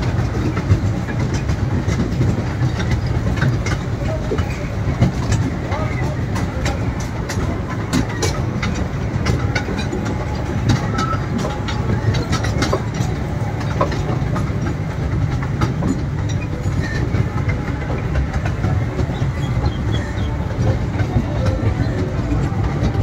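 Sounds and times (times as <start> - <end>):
toy train rumbling on track: 0.0 - 23.0
wheels clicking and rattling: 0.0 - 23.0.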